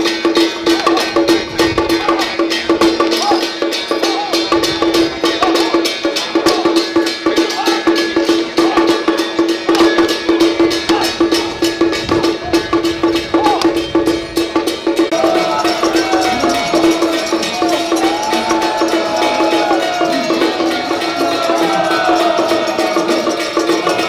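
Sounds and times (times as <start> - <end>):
drum and gong percussion: 0.0 - 24.0
voices: 0.0 - 24.0.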